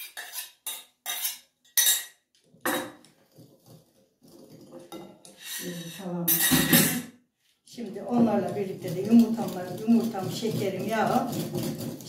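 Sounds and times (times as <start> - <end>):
metal spoon scraping saucepan: 0.0 - 7.1, 7.8 - 12.0.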